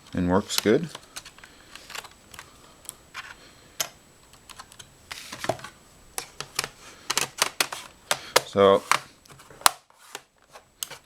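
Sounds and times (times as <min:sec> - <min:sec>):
clicks of plastic laptop parts: 0:00.5 - 0:11.0.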